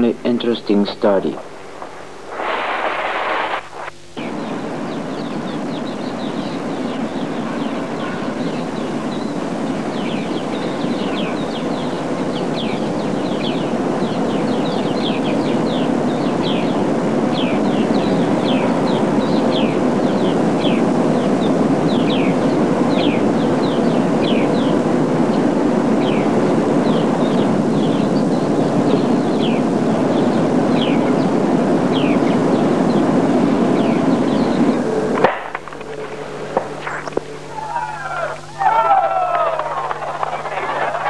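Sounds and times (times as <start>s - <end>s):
birds chirping: 0.0s - 2.7s, 3.8s - 41.0s
steady rushing noise: 0.0s - 41.0s.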